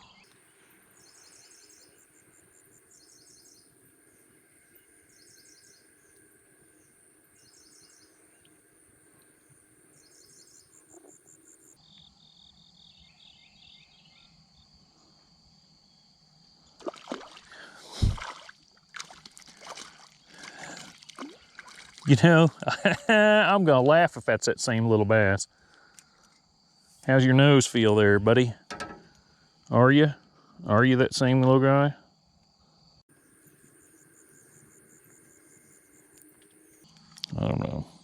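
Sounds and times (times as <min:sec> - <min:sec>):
insects chirping: 0:00.0 - 0:38.0.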